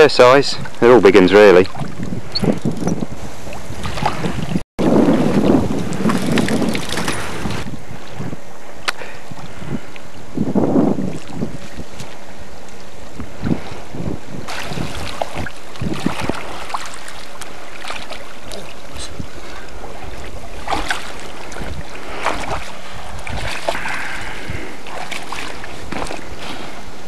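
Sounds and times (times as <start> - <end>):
water splashing: 0.0 - 8.3, 9.3 - 27.0
wind buffeting microphone: 0.0 - 27.0.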